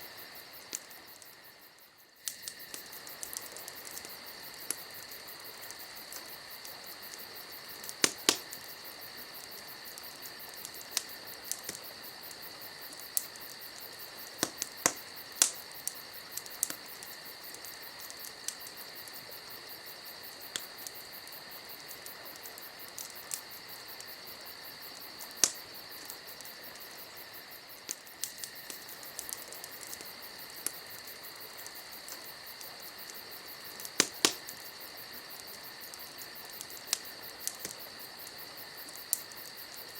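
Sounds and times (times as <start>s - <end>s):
campfire crackling: 0.0s - 39.9s
crickets chirring: 0.0s - 39.9s.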